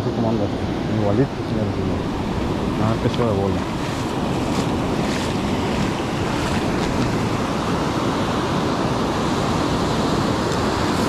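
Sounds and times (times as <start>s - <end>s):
ocean surf breaking on a beach: 0.0s - 11.0s
wind buffeting the microphone: 0.0s - 11.0s.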